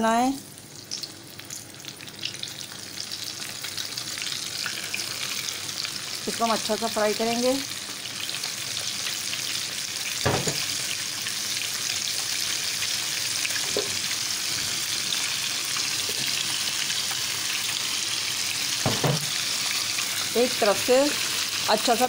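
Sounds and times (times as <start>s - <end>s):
onion rings sizzling in oil: 0.0s - 22.0s.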